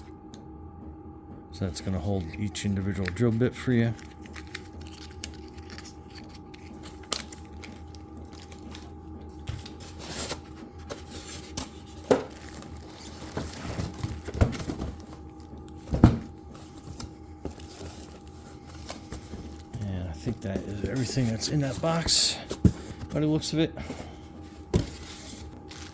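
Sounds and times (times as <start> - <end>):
faint steady hum: 0.0 - 25.9
packaging rustling: 2.8 - 23.2, 23.9 - 25.9.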